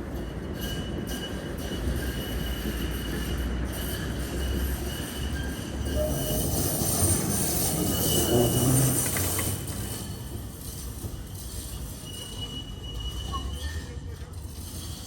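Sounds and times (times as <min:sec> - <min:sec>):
tram wheels rumbling: 0:00.0 - 0:15.0
high wheel squeal: 0:00.4 - 0:15.0.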